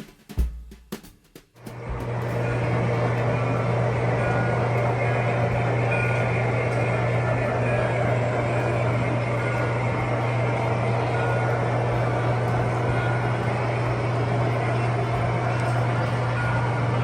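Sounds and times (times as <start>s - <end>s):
machine drone with low hum: 1.6s - 17.0s.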